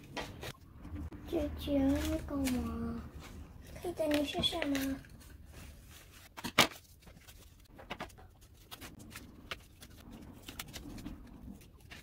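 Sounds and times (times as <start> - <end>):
paper being handled: 1.7 - 12.0.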